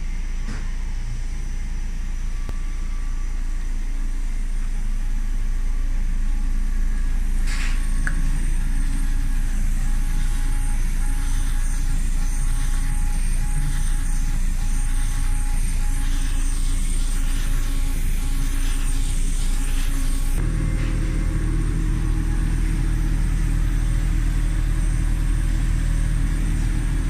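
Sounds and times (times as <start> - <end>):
faint whining tones: 0.0 - 27.0
laser engraving machine humming: 0.0 - 27.0.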